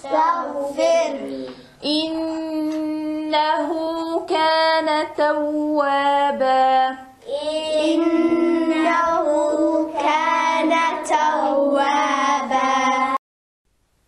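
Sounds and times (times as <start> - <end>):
child chanting: 0.0 - 13.2.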